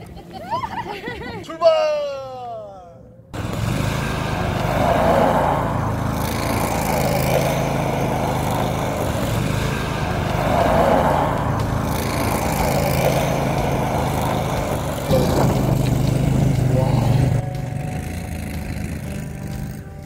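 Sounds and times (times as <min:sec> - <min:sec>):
amphibious vehicle engine running: 0:03.4 - 0:20.0.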